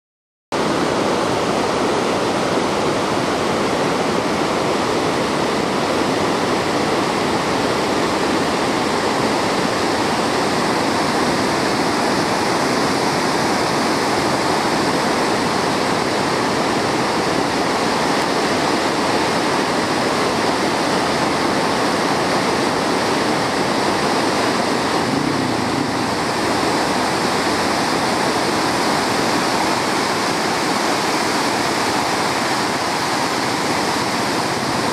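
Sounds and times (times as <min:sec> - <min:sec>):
water rushing over rocks: 0:00.6 - 0:34.9.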